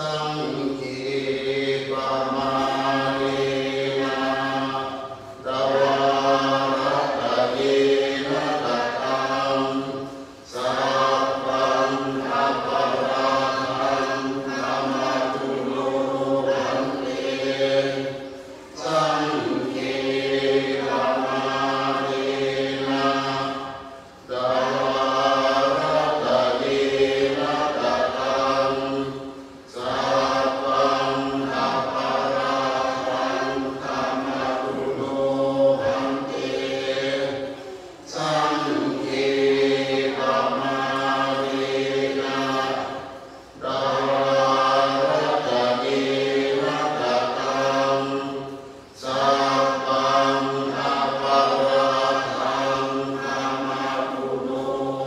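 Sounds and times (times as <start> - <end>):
monks chanting in unison: 0.0 - 55.0.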